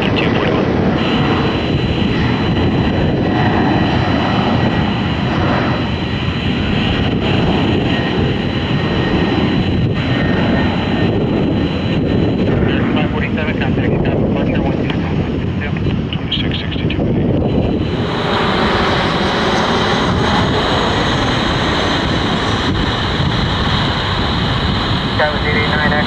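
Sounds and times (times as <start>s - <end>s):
high engine whine: 0.0s - 26.0s
jet engines rumbling: 0.0s - 26.0s.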